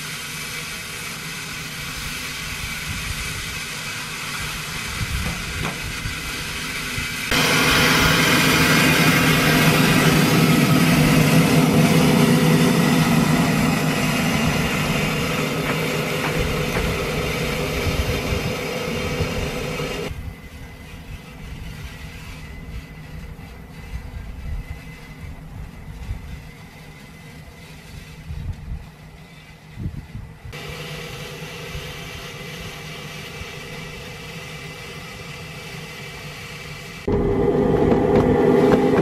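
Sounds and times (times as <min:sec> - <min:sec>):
snow plow grinding and crunching: 0:00.0 - 0:29.7, 0:30.6 - 0:39.0
locomotive running: 0:00.0 - 0:39.0.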